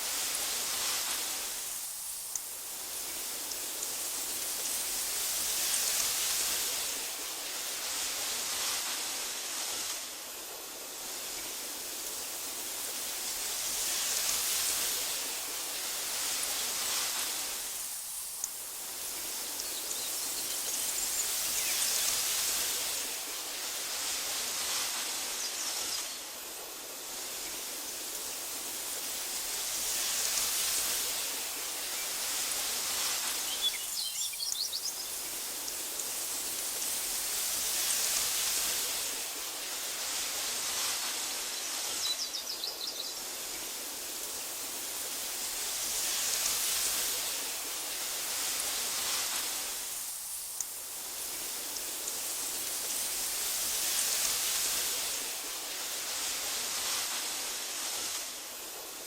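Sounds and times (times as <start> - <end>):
wind blowing through grass: 0.0 - 59.0.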